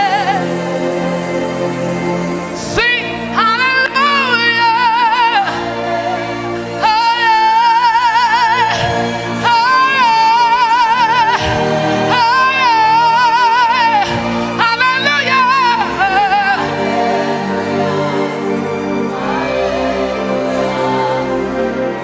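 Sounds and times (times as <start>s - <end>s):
sustained accompaniment chords: 0.0s - 22.0s
woman singing with vibrato: 0.0s - 22.0s.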